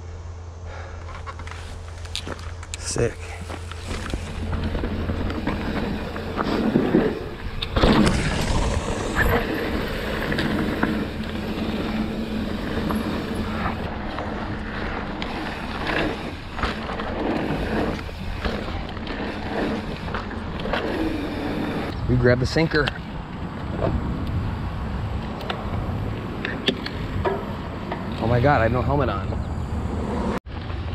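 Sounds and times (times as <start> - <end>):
bike rattling over bumps: 0.7 - 30.9.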